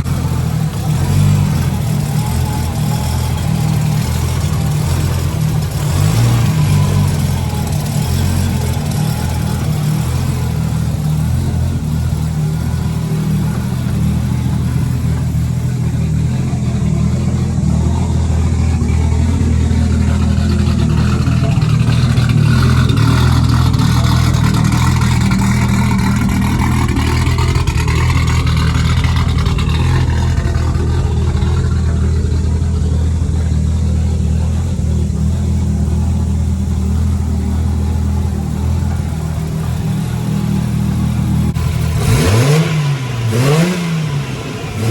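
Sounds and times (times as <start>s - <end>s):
turbocharged engine running: 0.0s - 44.9s.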